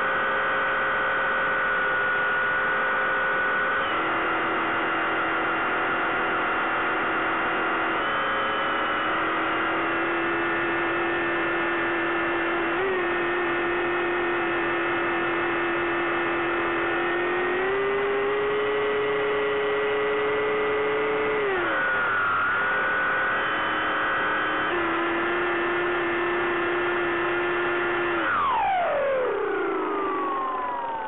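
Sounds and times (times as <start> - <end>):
electric motor and propeller whine: 0.0 - 31.0.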